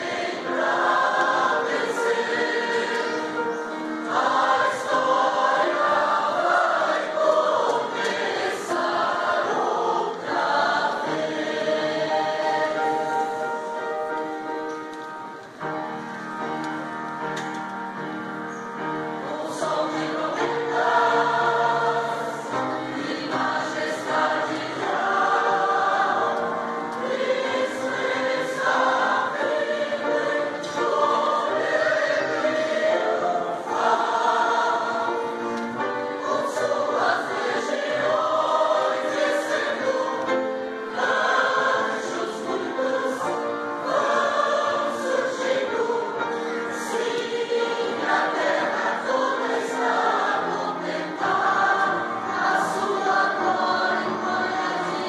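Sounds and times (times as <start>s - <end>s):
church choir singing a hymn: 0.0s - 55.0s.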